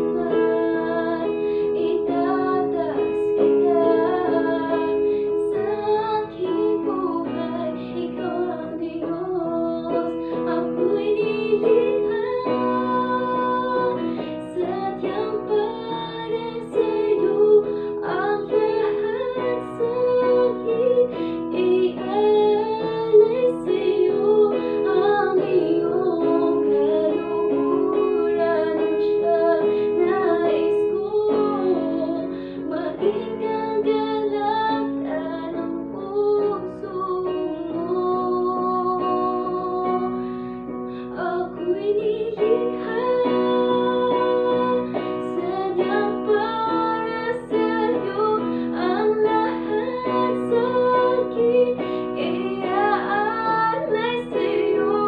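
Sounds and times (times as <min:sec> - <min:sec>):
electronic keyboard chords: 0:00.0 - 0:55.0
woman singing worship song: 0:00.0 - 0:55.0.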